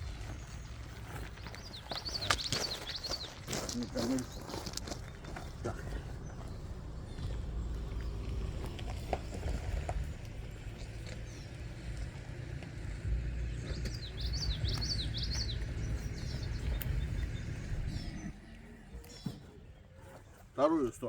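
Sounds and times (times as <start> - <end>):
bird chirping: 0.0 - 21.0
low continuous rumble: 0.0 - 21.0.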